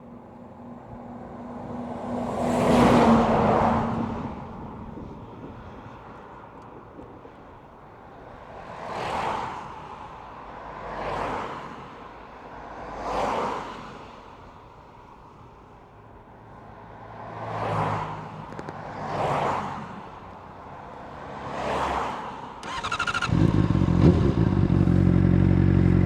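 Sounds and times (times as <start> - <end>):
vehicles passing: 0.0 - 26.0.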